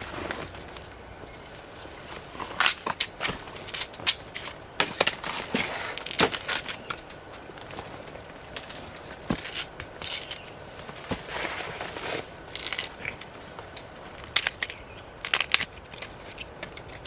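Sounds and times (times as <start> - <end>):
dry leaves and twigs crackling: 0.0 - 17.0.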